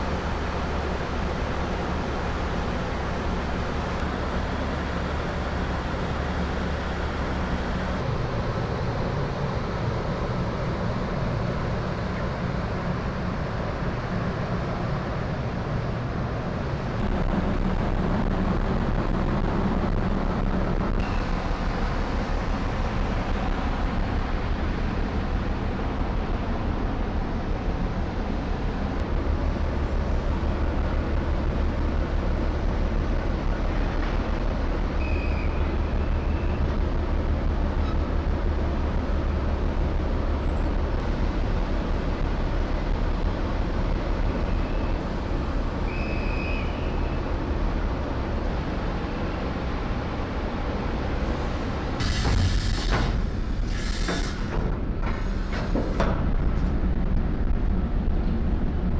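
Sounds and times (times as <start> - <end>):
low engine rumble: 0.0 - 11.7, 16.3 - 58.9
continuous rushing noise: 0.0 - 58.9.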